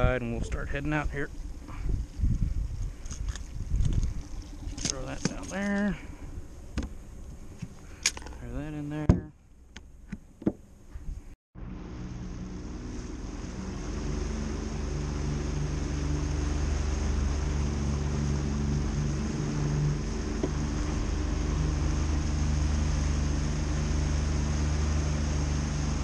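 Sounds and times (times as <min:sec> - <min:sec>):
water rushing along hull: 0:00.0 - 0:08.8, 0:11.6 - 0:26.0
outboard motor running: 0:00.0 - 0:09.8, 0:11.6 - 0:26.0.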